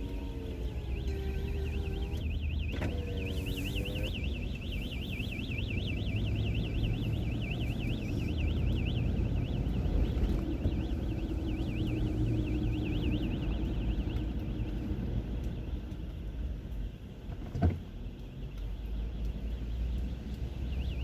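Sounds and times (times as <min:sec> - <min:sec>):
warbling security alarm: 0:00.0 - 0:16.0, 0:18.8 - 0:21.0.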